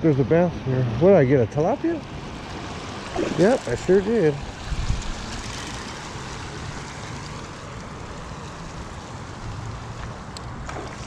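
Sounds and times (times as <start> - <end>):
water rushing through gate: 1.2 - 11.0.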